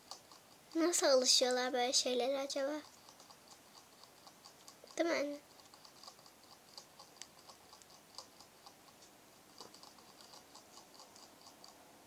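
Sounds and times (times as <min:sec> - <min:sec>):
hamster licking metal spout: 0:00.0 - 0:11.9.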